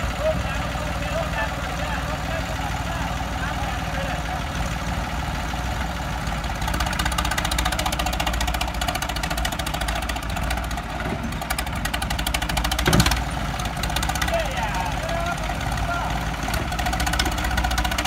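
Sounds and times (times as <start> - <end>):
tractor diesel engines under load: 0.0 - 18.0.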